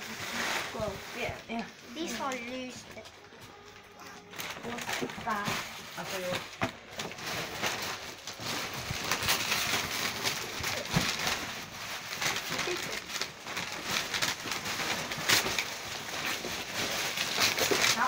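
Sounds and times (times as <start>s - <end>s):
plastic bags and paper rustling: 0.0s - 18.0s.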